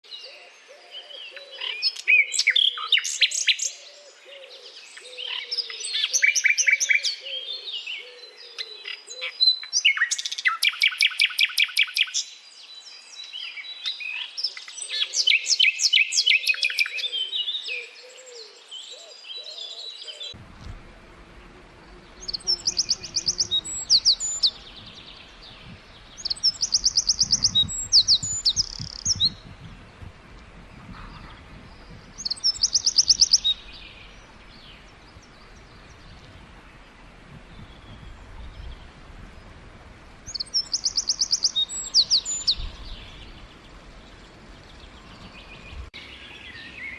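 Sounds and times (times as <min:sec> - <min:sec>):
nightingale singing: 0:00.0 - 0:20.4, 0:21.8 - 0:39.0, 0:40.3 - 0:46.9.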